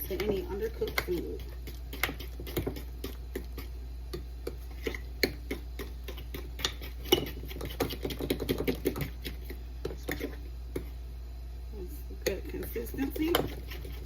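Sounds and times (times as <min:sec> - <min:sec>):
utensil stirring batter in bowl: 0:00.0 - 0:11.1, 0:12.2 - 0:14.0.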